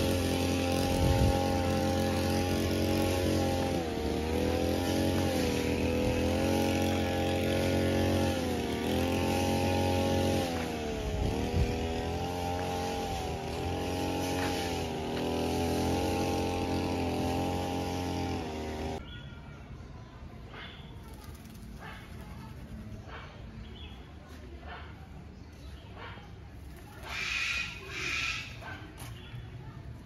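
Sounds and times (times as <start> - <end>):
small petrol engine running: 0.0 - 19.1, 20.9 - 24.0, 26.5 - 30.0.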